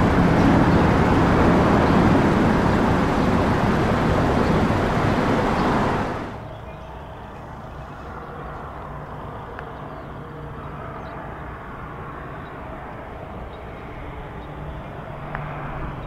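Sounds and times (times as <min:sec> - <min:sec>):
distant engine rumble: 0:00.0 - 0:16.0.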